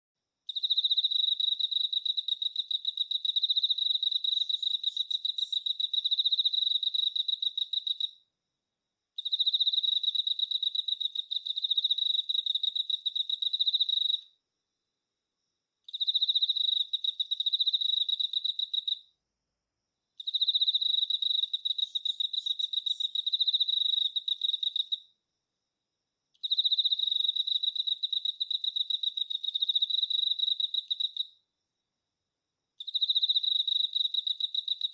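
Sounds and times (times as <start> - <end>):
cricket chirping: 0.4 - 34.9.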